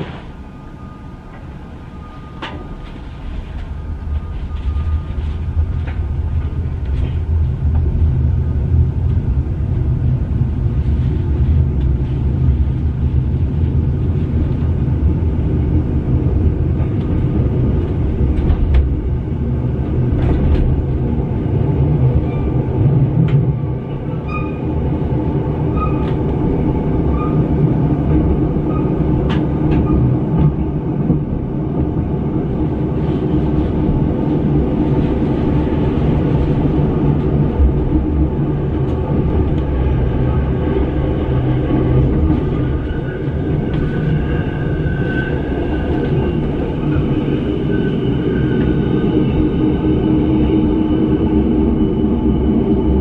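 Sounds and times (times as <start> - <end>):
train running gear rumble: 0.0 - 53.0.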